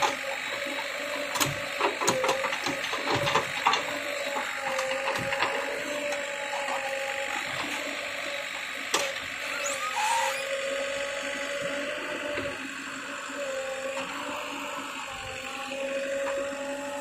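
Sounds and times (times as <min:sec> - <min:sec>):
backhoe engine and hydraulics whining: 0:00.0 - 0:17.0.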